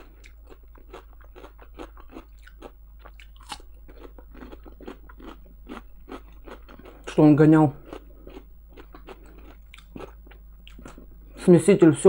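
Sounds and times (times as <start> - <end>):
crunching and chewing cucumber: 0.0 - 11.1.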